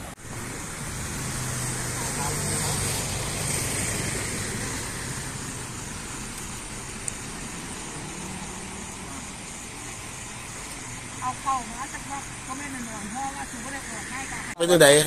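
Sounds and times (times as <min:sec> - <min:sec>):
steady traffic hum: 0:00.0 - 0:15.0
vehicle passing: 0:00.0 - 0:15.0.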